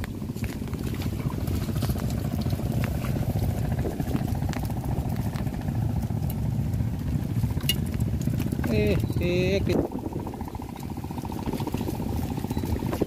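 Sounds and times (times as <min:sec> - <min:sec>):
rain and wind on microphone: 0:00.0 - 0:13.0.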